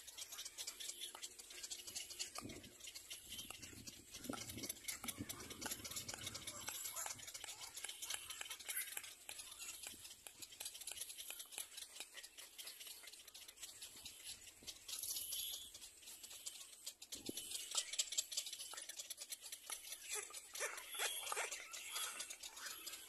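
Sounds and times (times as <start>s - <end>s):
high-pitched bird calls: 0.0s - 23.0s.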